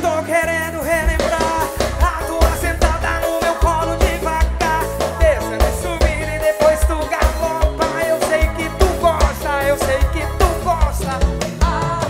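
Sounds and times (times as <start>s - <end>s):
live concert music: 0.0s - 12.0s.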